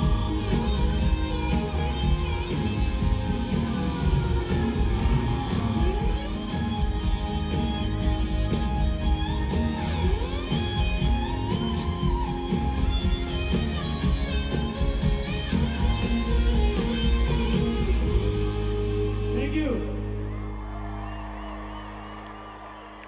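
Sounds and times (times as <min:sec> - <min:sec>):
electric guitar lead with bent notes: 0:00.0 - 0:20.6
country band playing: 0:00.0 - 0:22.9
drums: 0:00.0 - 0:23.0.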